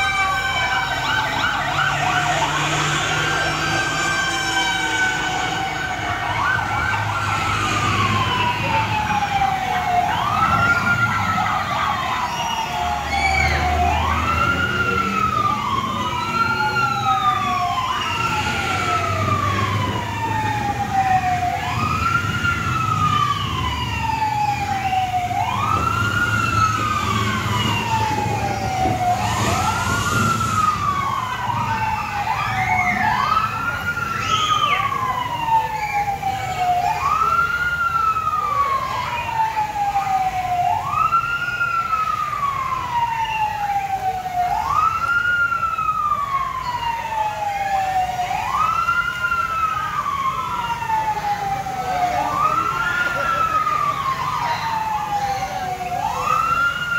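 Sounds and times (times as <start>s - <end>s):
fire truck siren wailing: 0.0s - 56.9s.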